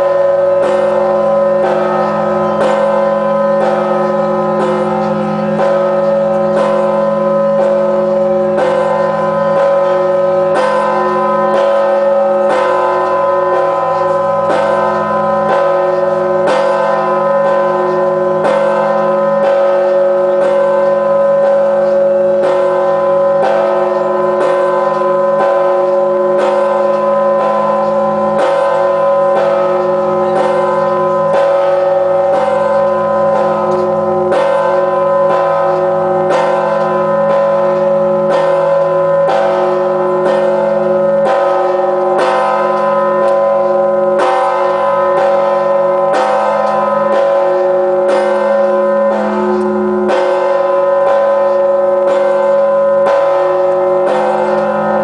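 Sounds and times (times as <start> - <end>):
church bell ringing: 0.0 - 55.0.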